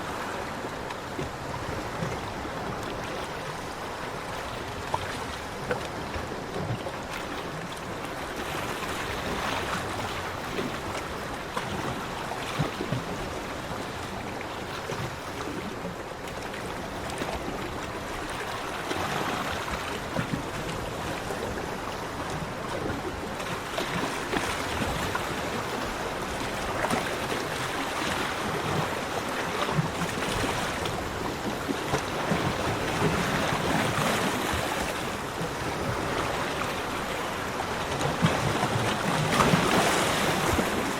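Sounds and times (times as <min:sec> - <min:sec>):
waves breaking on a beach: 0:00.0 - 0:40.9.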